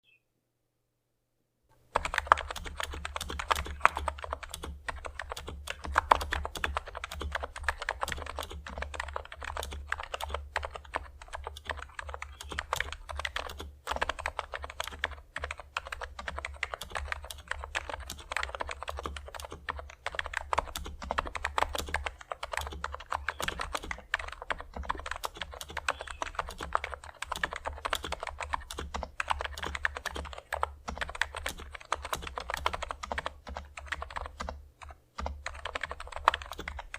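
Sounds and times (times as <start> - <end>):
fast keyboard typing: 1.9 - 36.9.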